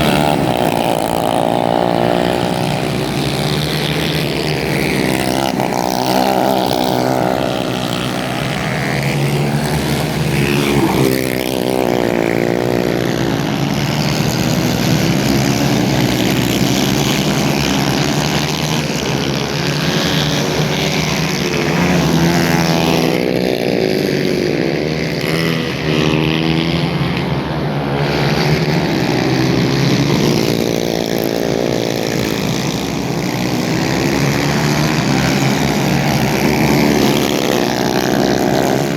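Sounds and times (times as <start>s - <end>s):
go-kart engines revving: 0.0s - 38.9s.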